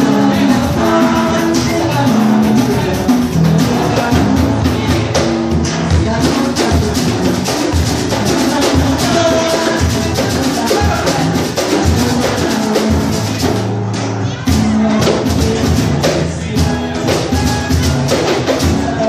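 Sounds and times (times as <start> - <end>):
samba percussion drumming: 0.0 - 19.0.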